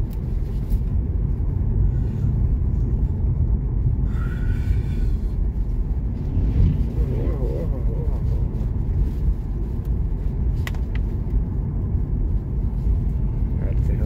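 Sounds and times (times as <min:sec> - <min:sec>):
road and engine rumble in car: 0:00.0 - 0:14.0.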